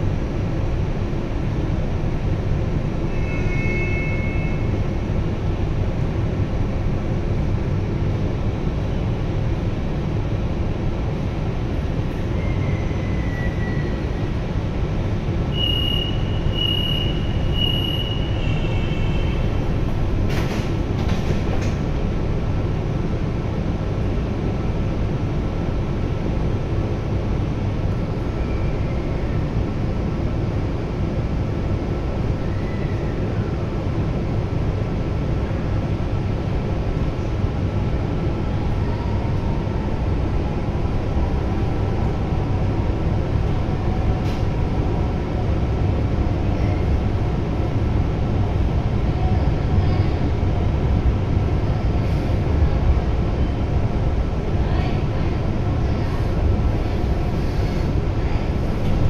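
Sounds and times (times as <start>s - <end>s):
train interior rumble and hiss: 0.0s - 59.0s.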